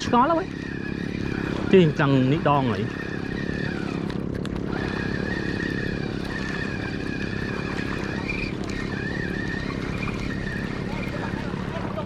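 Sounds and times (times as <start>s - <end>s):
engine running with low pulsing: 0.0s - 12.0s
high wavering whine: 0.0s - 12.0s.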